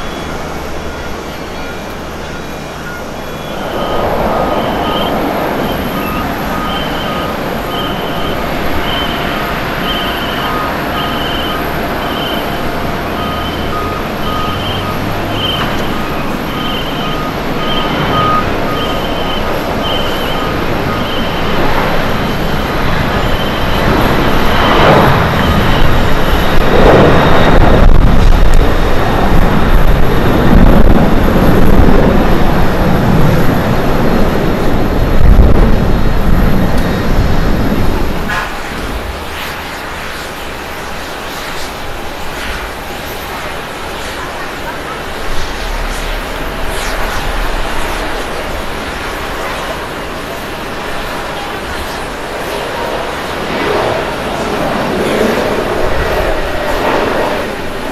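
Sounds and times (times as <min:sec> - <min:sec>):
jet engine roar at takeoff: 0:00.0 - 0:57.9.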